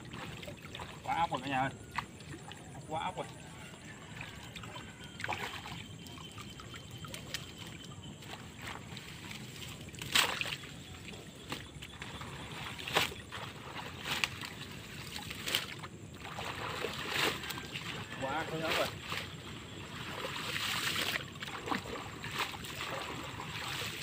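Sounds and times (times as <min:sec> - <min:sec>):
floodwater sloshing: 0:00.0 - 0:24.0.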